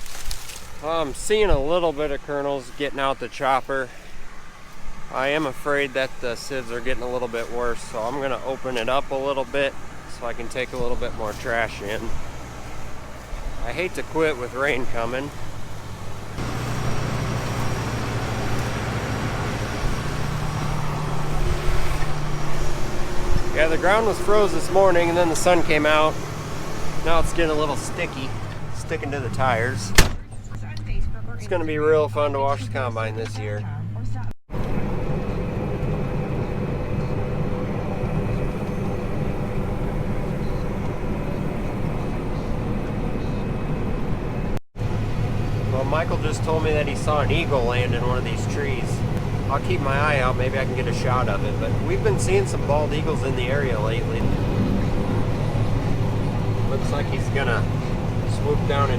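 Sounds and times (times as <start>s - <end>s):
combine harvester running: 0.0s - 58.9s.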